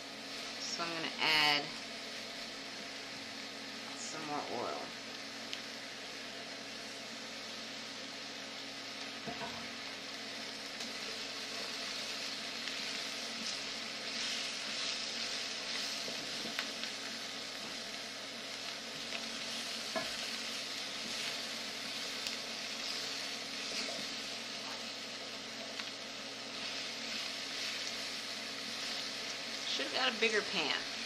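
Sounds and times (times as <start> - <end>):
vegetables sizzling in oil: 0.0 - 31.0.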